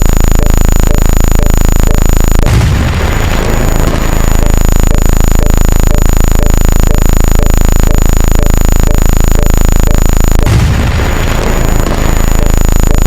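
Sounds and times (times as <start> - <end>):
faint blips: 0.0 - 13.0
loud buzzing of rapid clicks: 0.0 - 13.0.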